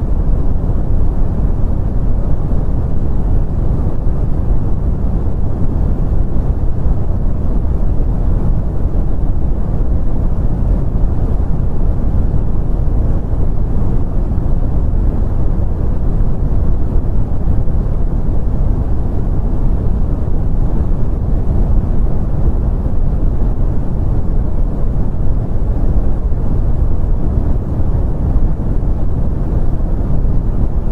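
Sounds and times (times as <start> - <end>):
brown noise: 0.0 - 30.9.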